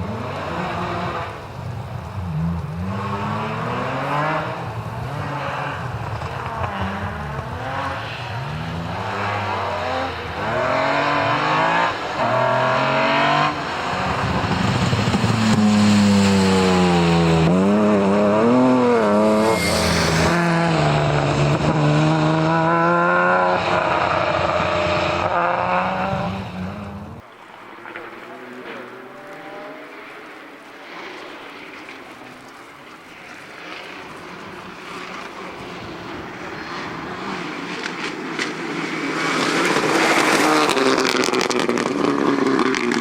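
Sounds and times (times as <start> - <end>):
rally car engine accelerating: 0.0 - 32.0, 33.6 - 43.0.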